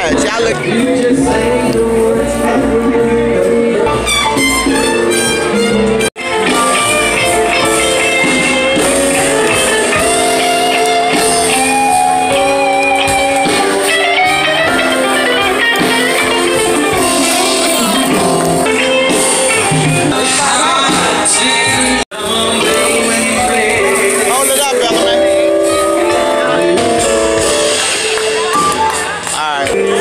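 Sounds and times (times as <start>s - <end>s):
live jazz band: 0.0s - 30.0s.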